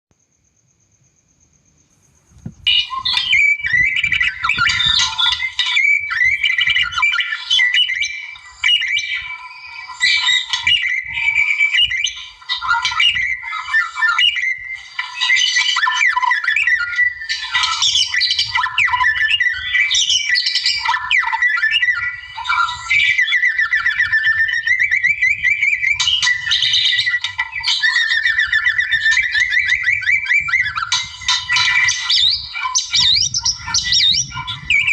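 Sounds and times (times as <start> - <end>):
songbird singing whistles: 2.3 - 34.9.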